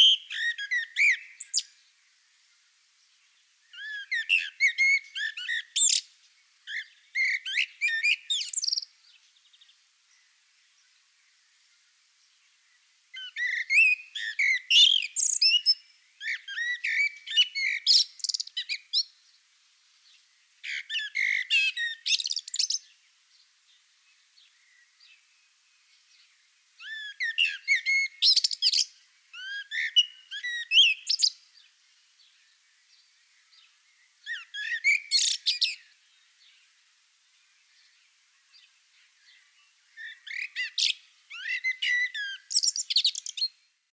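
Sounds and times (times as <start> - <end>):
blackbird singing: 0.0 - 2.0, 3.0 - 19.4, 20.0 - 36.7, 37.3 - 43.7.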